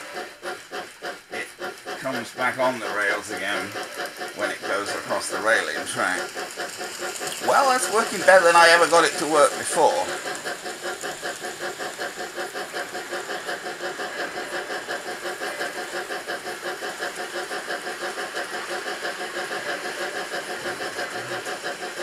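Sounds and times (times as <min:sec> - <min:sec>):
model train motor whining: 0:00.0 - 0:22.0.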